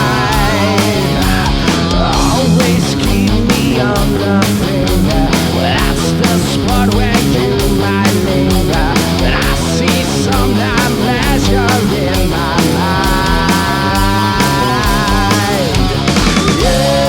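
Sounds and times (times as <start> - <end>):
hard rock band playing live: 0.0 - 17.0.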